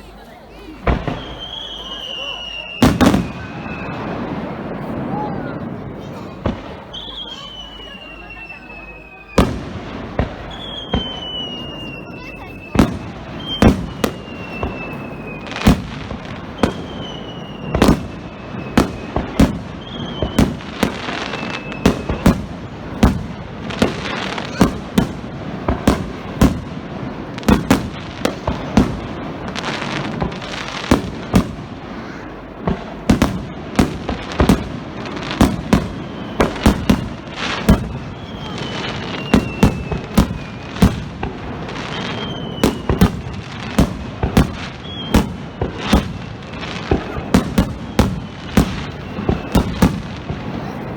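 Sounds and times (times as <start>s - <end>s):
firework crackle: 0.0s - 50.9s
whistling firework shell: 0.9s - 5.4s, 6.4s - 50.9s.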